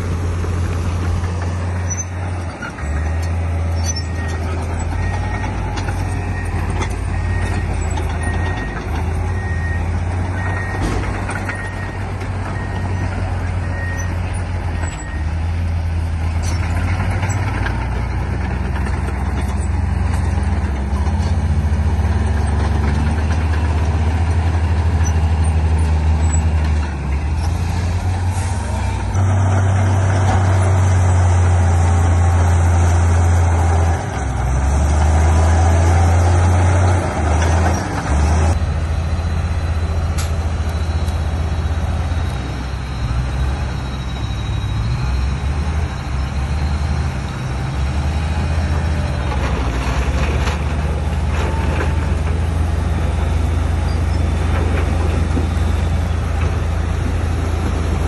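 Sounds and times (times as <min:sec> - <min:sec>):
heavy diesel engines droning: 0:00.0 - 0:58.0.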